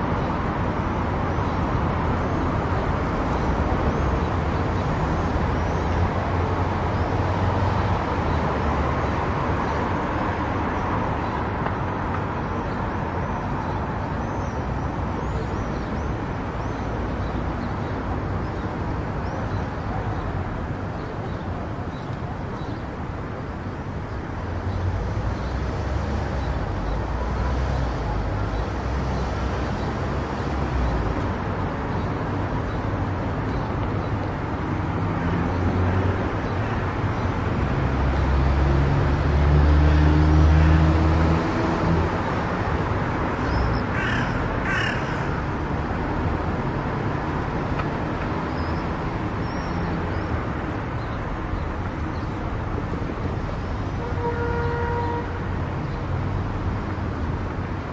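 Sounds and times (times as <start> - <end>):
road and tyre noise: 0.0 - 57.9.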